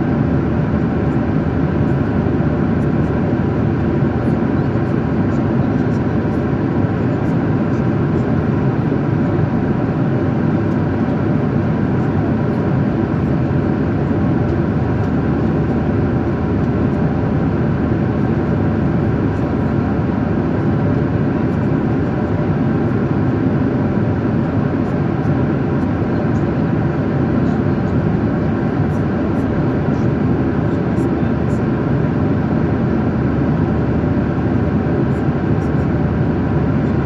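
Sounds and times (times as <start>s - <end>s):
jet engine cabin noise: 0.0s - 37.0s.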